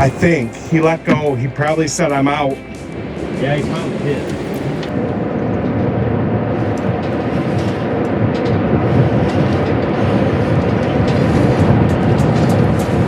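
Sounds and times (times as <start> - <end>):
boat motor rumbling: 0.0 - 13.0
wind noise: 0.0 - 13.0.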